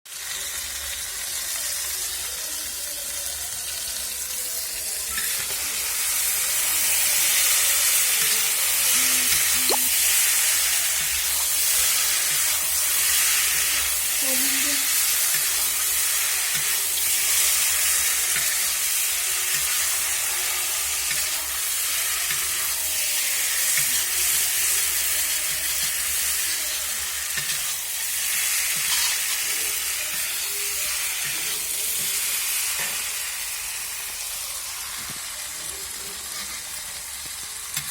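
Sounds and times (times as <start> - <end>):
food sizzling in a pan: 0.1 - 37.9.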